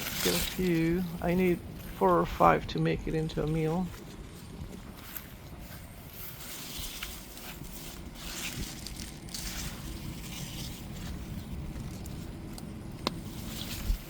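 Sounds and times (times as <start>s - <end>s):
leaves and soil rustling: 0.0s - 14.0s
low rumble on microphone: 0.0s - 14.0s.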